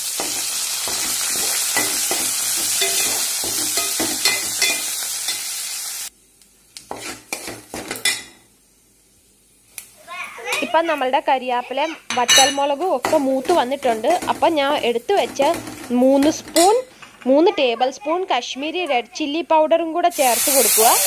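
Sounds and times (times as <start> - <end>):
spices sizzling in hot oil: 0.0 - 16.6, 20.0 - 21.0.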